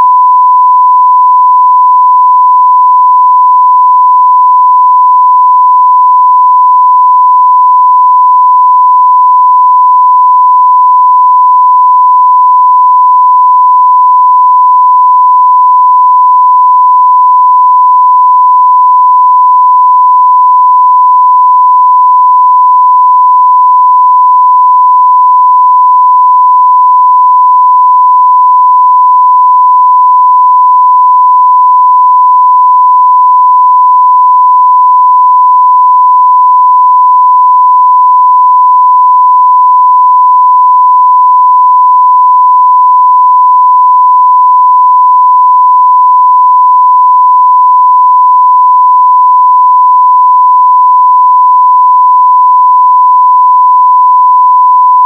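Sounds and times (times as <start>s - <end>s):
sine-wave test tone: 0.0s - 55.0s.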